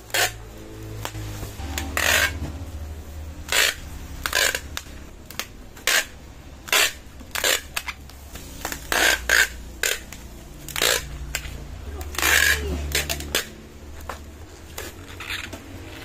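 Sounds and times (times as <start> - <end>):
packing tape ripping: 0.0 - 15.8.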